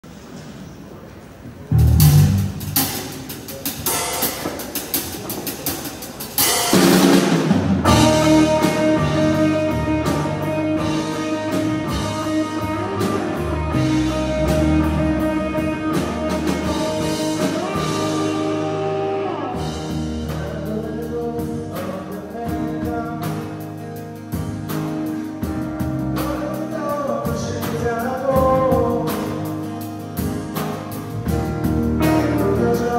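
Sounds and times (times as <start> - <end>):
live rock band playing: 1.7 - 32.9.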